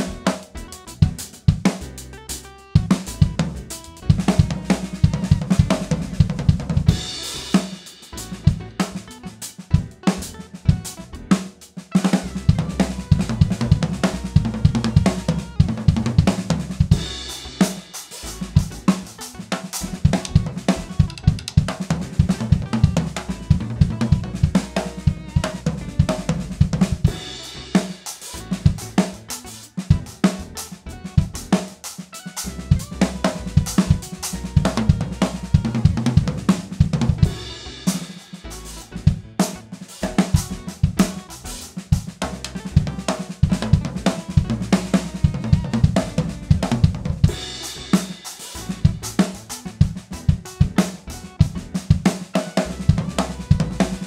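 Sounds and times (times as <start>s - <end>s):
backing track music: 0.0s - 54.0s
drum kit playing: 0.0s - 54.0s.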